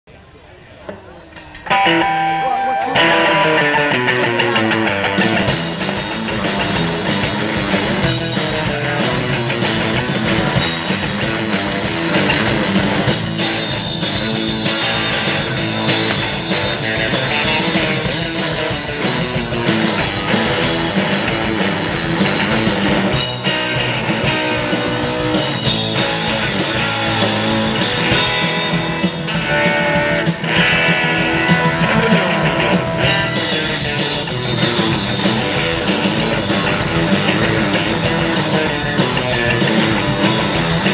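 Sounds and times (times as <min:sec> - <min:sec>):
electric guitars: 0:00.8 - 0:40.9
drum kit: 0:01.4 - 0:40.9.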